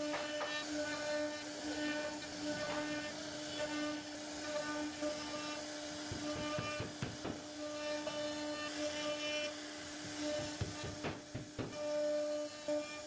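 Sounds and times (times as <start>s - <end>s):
router bit cutting wood: 0.0s - 13.0s.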